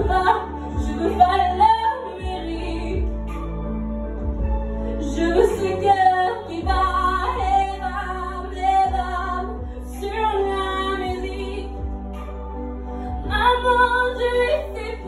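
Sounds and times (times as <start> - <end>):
woman singing into a microphone: 0.0 - 3.5, 5.0 - 12.4, 13.0 - 15.0
karaoke backing track: 0.0 - 15.0.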